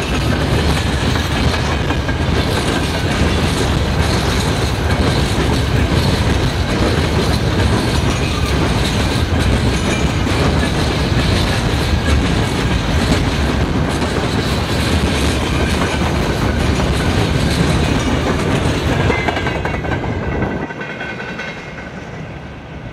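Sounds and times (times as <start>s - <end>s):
train wheels clacking on rails: 0.0s - 22.9s.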